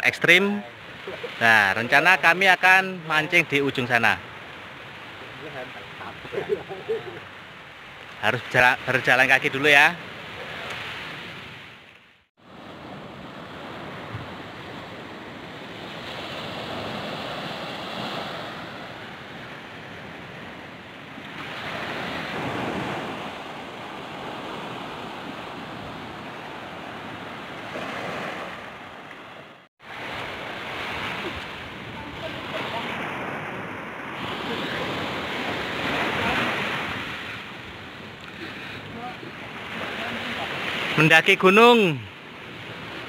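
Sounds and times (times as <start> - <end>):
small waves breaking on beach: 0.2 - 43.0.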